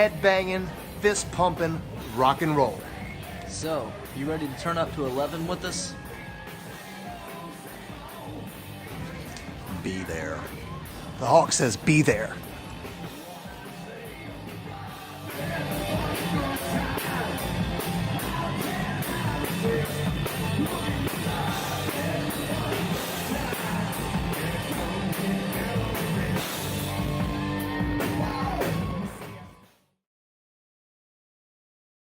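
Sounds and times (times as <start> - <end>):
hard rock music with singer: 0.0 - 29.7.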